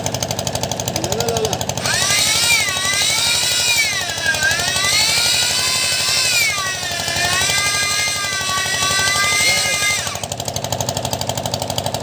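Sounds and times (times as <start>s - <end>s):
blades shaving pipe chatter: 0.8s - 10.7s
motor whine: 0.8s - 10.7s.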